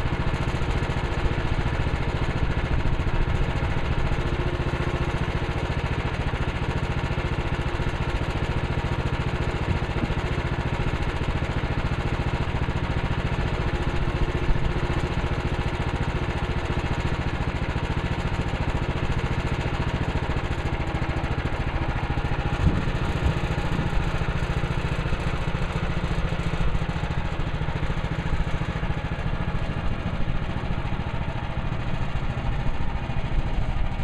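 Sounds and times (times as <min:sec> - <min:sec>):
small gasoline engine running: 0:00.0 - 0:34.0.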